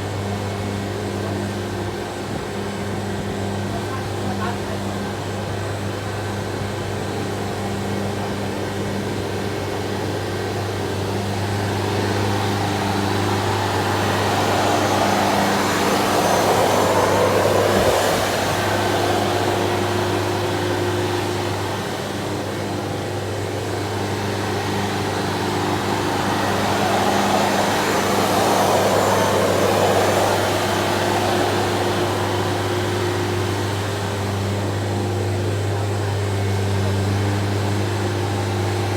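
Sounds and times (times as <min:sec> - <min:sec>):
floor grinding machine: 0:00.0 - 0:38.9.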